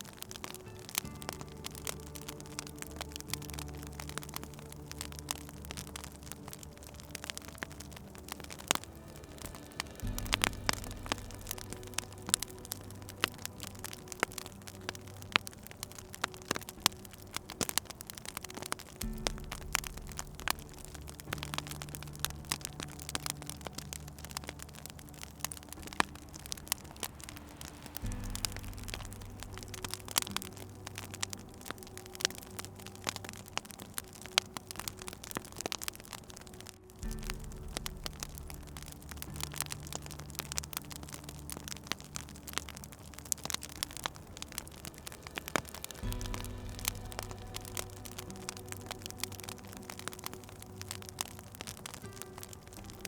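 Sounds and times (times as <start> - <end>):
low steady drone: 0.0 - 53.0
soft low music tones: 0.0 - 53.0
wood fire crackling: 0.0 - 53.0.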